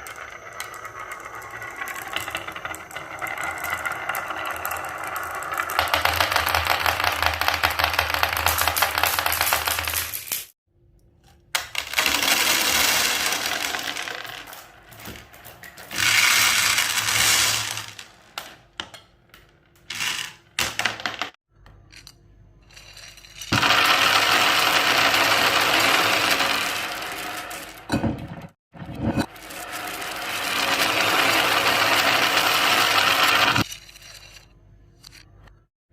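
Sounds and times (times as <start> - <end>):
marbles rolling down wooden track: 0.0 - 10.4, 11.6 - 18.6, 19.3 - 21.4, 23.4 - 28.5, 29.2 - 33.7.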